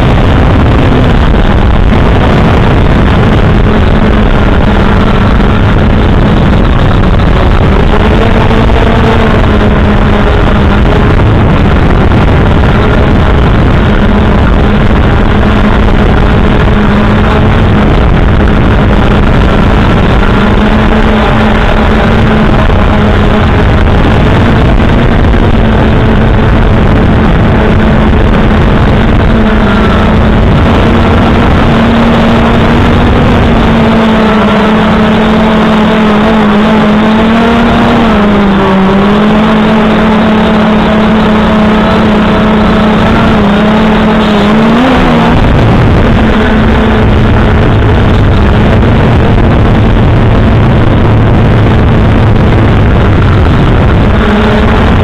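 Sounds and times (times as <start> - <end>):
drone propellers humming: 0.0 - 55.0
low rumble: 0.0 - 55.0.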